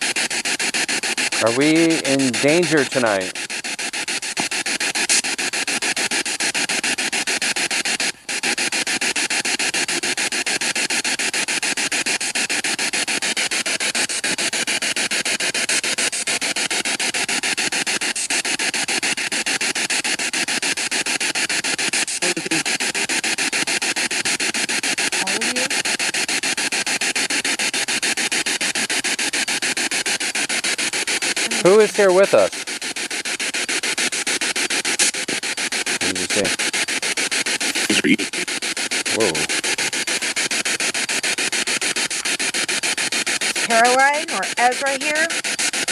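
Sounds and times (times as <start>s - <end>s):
pulsing radio static hiss: 0.0s - 45.9s.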